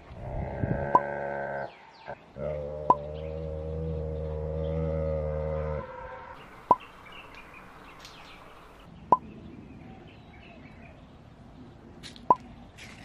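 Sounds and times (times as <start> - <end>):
faint bird chirping: 0.6 - 13.0.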